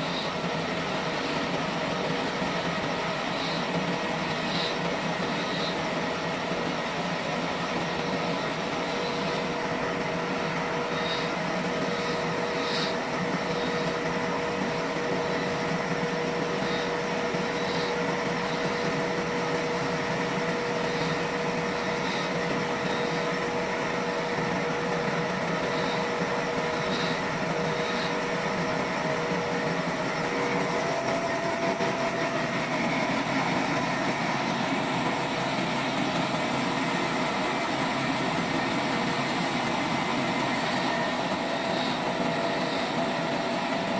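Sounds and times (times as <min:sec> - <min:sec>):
sawmill saw running: 0:00.0 - 0:43.9.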